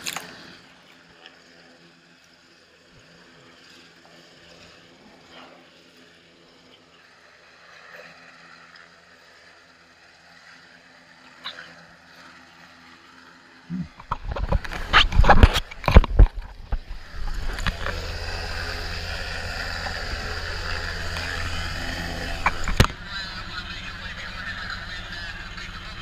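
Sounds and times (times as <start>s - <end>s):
helicopter hovering overhead: 0.0s - 26.0s.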